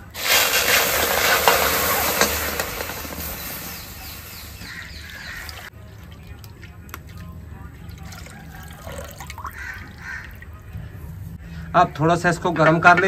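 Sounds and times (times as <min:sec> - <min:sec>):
milk pouring into a wok: 0:00.0 - 0:10.6.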